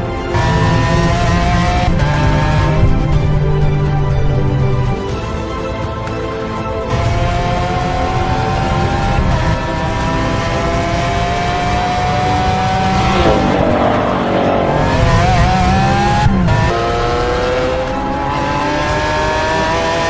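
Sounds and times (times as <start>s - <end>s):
sports car engine accelerating: 0.0s - 5.2s, 6.8s - 20.0s.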